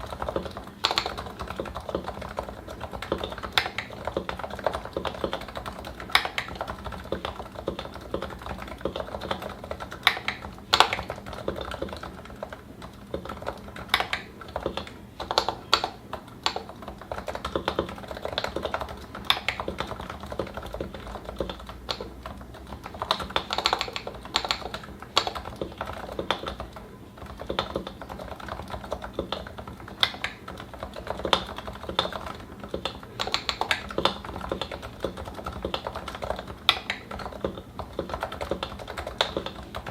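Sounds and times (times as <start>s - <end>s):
keyboard typing: 0.0s - 39.9s
louder keystrokes: 0.0s - 39.9s.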